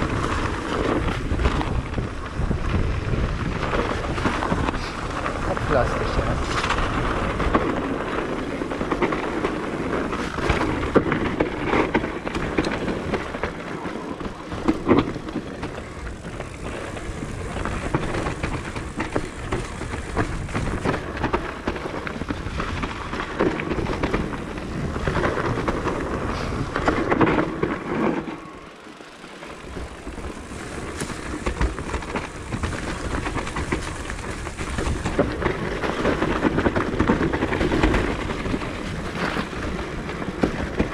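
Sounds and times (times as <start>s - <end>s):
bike rattling and knocking: 0.0s - 40.9s
tyres crunching over dirt: 0.0s - 40.9s.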